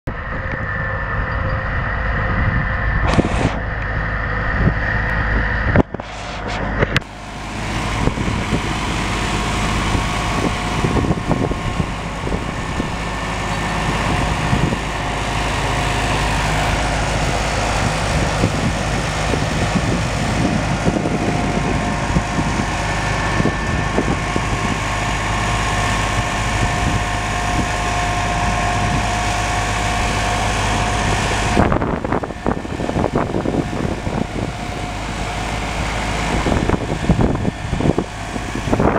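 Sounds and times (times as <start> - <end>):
tractor engine running: 0.0 - 38.9
thin steady whine: 0.1 - 38.9.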